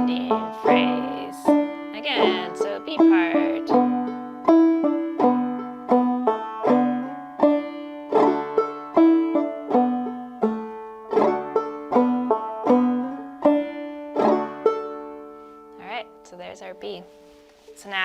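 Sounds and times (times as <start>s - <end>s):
banjo playing: 0.0s - 18.0s.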